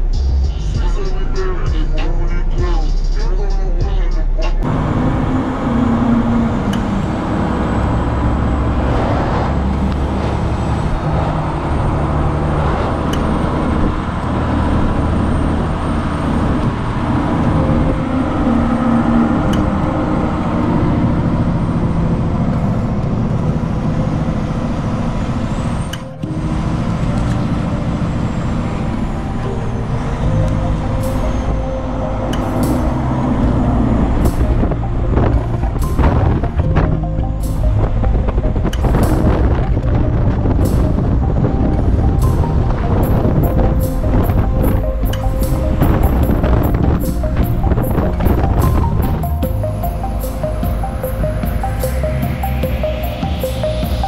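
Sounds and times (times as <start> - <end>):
truck engine hum: 0.0 - 54.0.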